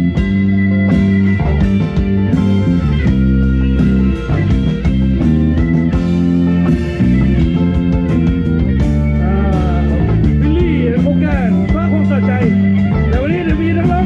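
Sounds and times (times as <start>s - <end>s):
bass guitar: 0.0s - 14.0s
electric guitar: 0.0s - 14.0s
steady drum beat: 0.0s - 14.0s.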